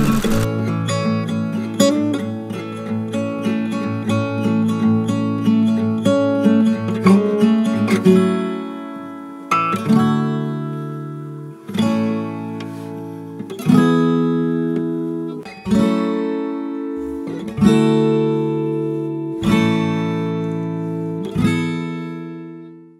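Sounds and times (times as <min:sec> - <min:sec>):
acoustic guitar chords strummed: 0:00.0 - 0:22.9.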